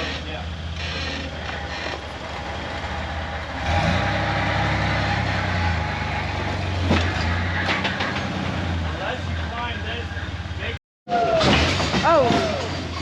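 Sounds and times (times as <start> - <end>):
off-road vehicle engine running: 0.0 - 10.8.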